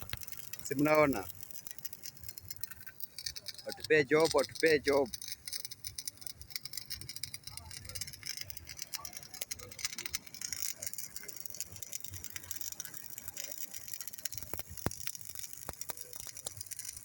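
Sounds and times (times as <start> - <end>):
sharp clicks: 0.0 - 17.0
welding arc crackling: 0.0 - 17.0.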